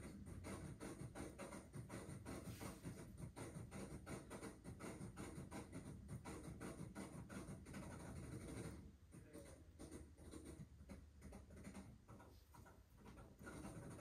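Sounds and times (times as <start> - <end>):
rapid scratching and rubbing: 0.0 - 14.0.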